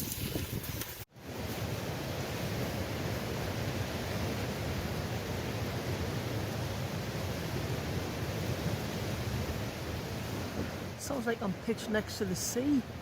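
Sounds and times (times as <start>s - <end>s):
gale-force wind through trees: 0.0s - 13.0s.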